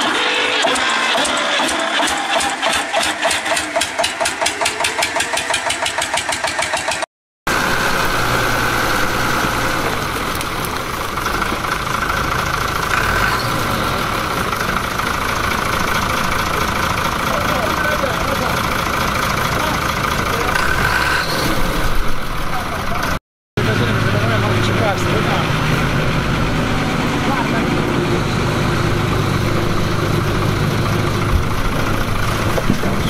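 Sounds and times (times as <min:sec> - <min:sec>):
tractor diesel engine chugging: 0:00.0 - 0:33.0
tractor running steadily: 0:00.0 - 0:33.0
wood chipper whine: 0:00.0 - 0:33.0.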